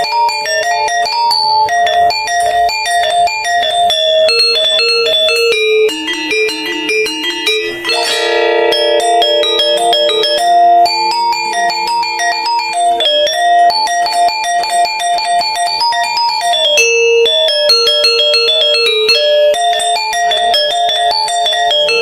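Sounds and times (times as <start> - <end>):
metallophone notes ringing: 0.0 - 22.0.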